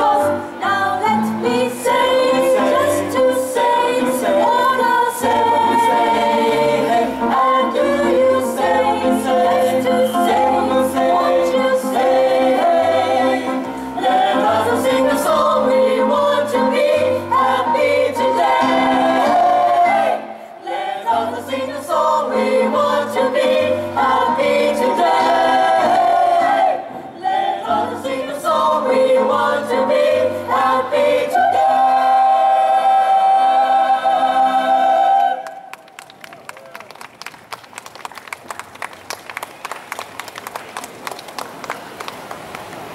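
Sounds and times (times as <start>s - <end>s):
mixed choir singing in harmony: 0.0s - 35.7s.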